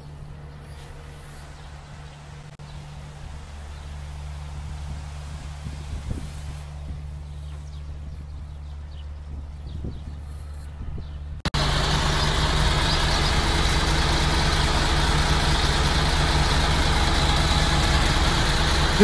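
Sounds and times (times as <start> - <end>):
truck idling close: 0.0 - 9.3, 11.4 - 19.0
truck engine humming: 0.0 - 19.0.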